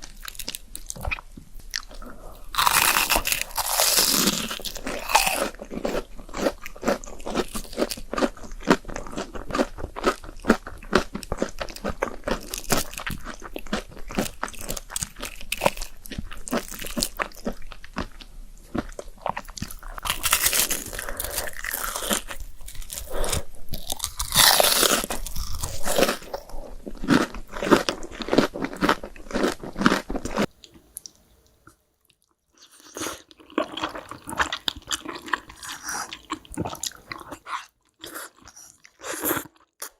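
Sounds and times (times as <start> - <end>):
biting and chewing noodles: 0.0 - 30.5, 32.1 - 39.9.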